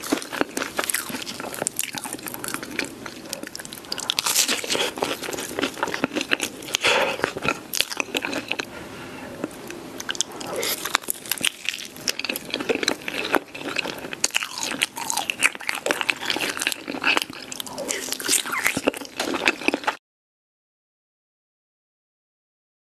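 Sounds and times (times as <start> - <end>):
crunching bites and chewing: 0.0 - 8.7, 9.4 - 20.0.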